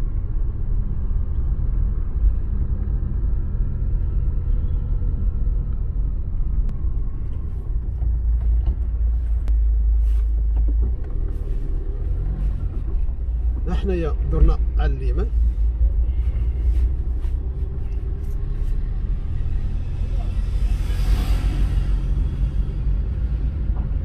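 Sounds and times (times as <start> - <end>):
car interior rumble: 0.0 - 24.0.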